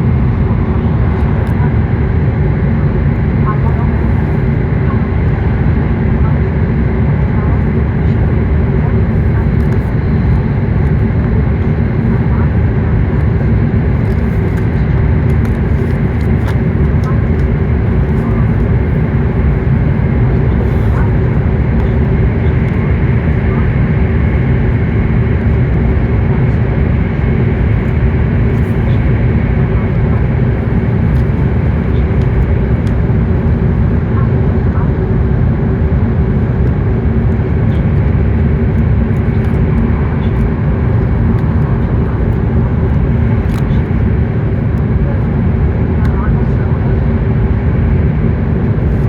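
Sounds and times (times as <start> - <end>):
faint hum: 0.0 - 49.0
train running rumble: 0.0 - 49.0.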